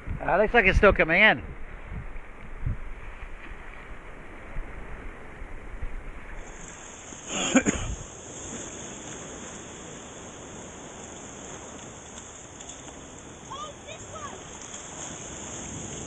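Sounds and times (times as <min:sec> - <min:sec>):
wind rumble on microphone: 0:00.0 - 0:16.0
shallow water lapping: 0:01.5 - 0:16.0.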